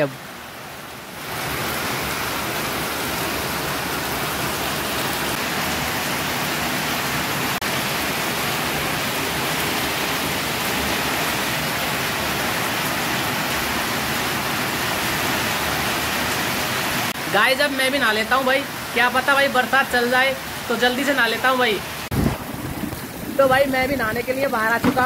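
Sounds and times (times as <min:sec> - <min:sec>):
heavy rain on concrete roof: 0:00.0 - 0:25.0.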